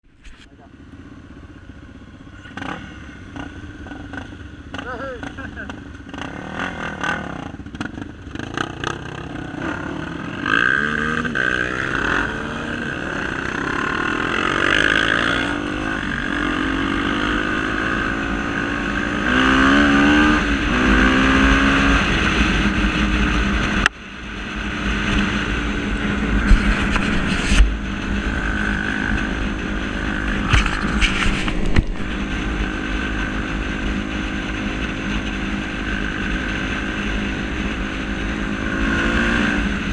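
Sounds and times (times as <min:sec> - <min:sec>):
motorcycle engine revving: 0:00.2 - 0:39.9.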